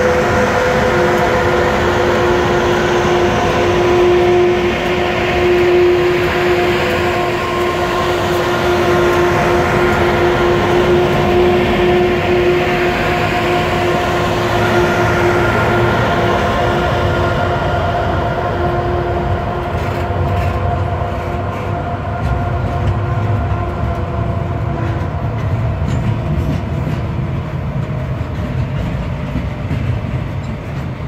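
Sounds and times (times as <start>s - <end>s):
electric locomotive hum: 0.0s - 31.0s
wheels rumbling on rail: 0.0s - 31.0s.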